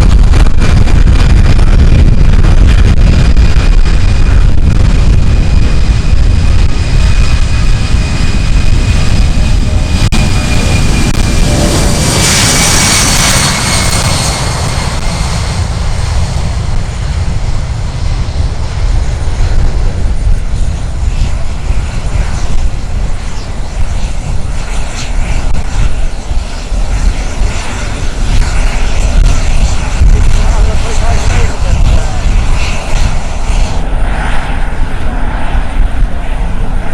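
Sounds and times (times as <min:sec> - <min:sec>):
jet engines whining and rumbling: 0:00.0 - 0:36.9.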